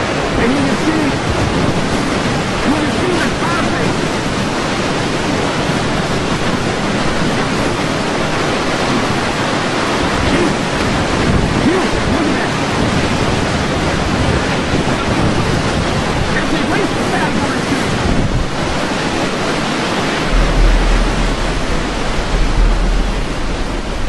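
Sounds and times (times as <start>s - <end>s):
wind buffeting microphone: 0.0s - 16.4s, 17.8s - 24.0s
roaring wind: 0.0s - 17.0s, 17.8s - 24.0s
heavy surf: 0.0s - 24.0s.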